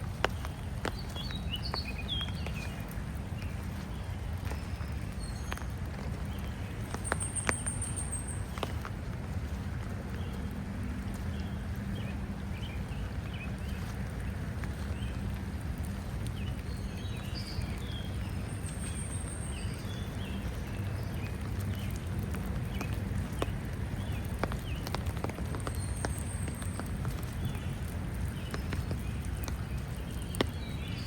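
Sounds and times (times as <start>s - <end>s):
rain taps and drips: 0.0s - 31.0s
birds chirping: 0.2s - 31.0s.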